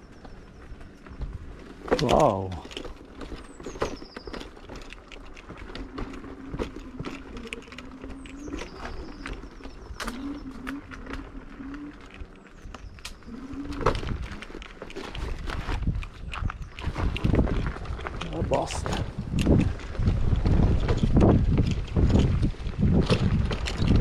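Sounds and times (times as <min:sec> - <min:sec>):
scooter clattering over stones: 0:00.0 - 0:24.0.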